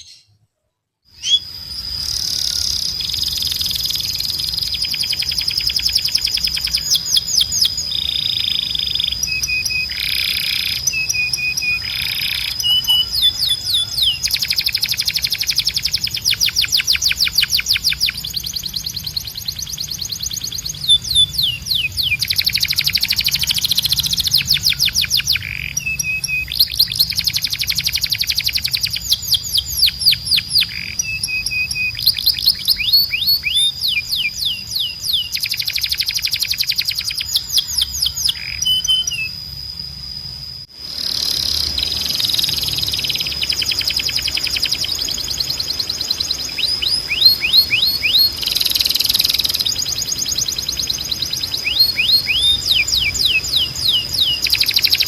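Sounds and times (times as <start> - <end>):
canary singing trills: 0.0 - 0.4, 1.1 - 55.0
steady high whistled tone: 1.1 - 55.0.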